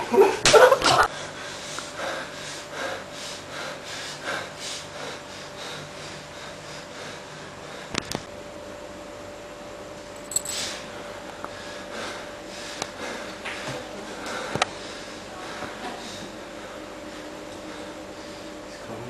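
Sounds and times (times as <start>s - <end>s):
faint steady hum: 0.0s - 19.0s
rapid heavy breathing: 1.1s - 8.1s, 10.4s - 18.9s.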